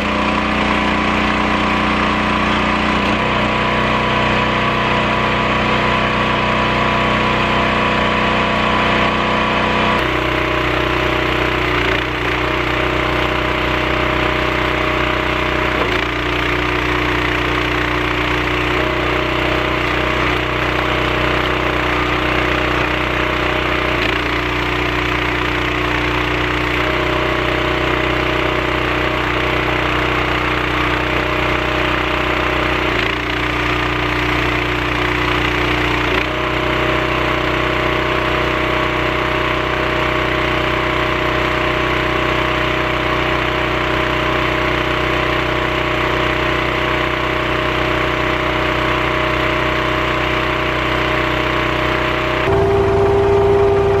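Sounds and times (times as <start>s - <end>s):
log splitter engine running: 0.0s - 54.0s.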